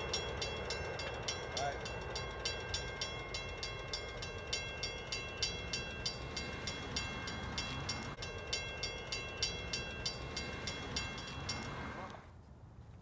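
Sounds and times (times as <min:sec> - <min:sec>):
crossing signal bell ringing: 0:00.0 - 0:12.3.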